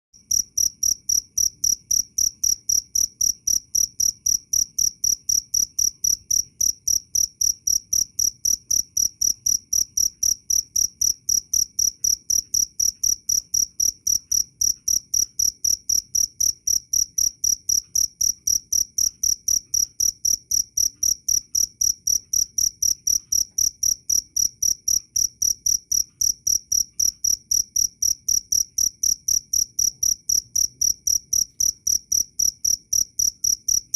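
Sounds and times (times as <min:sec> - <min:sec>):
cricket chirping: 0:00.2 - 0:33.9.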